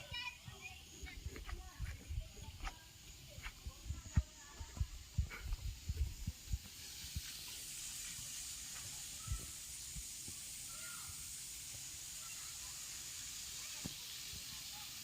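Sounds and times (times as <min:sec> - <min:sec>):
water spraying from hose: 0:00.0 - 0:15.0.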